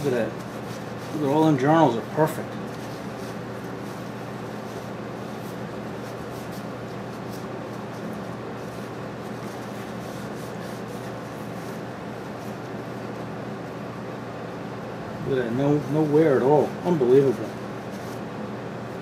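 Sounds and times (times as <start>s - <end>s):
cloth rag rubbing metal: 0.0s - 13.2s, 15.8s - 18.4s
steady low hum: 0.0s - 19.0s.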